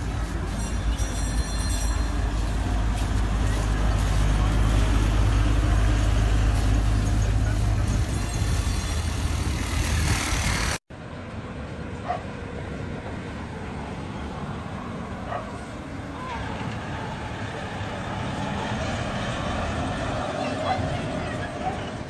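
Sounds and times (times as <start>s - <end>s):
quiet street ambience: 0.0s - 22.0s
road train engine driving past: 0.0s - 22.0s
tyre and street noise: 0.0s - 22.0s.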